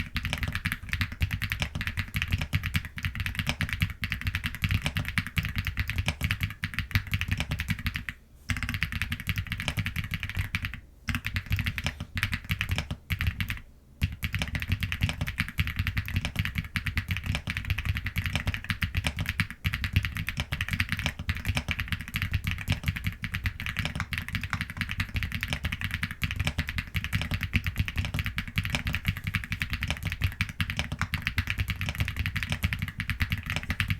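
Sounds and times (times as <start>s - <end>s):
fast mechanical keyboard typing: 0.0s - 33.9s.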